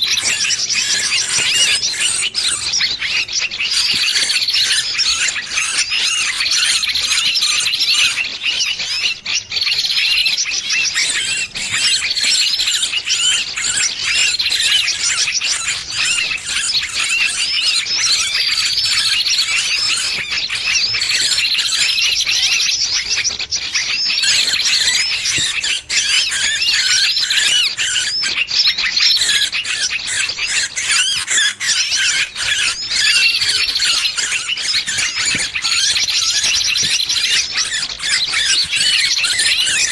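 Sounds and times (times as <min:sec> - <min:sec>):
small birds distress calls: 0:00.0 - 0:39.9.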